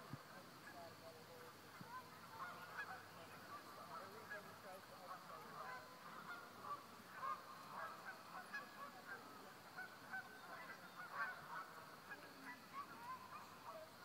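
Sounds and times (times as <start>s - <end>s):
geese honking: 1.7s - 14.0s.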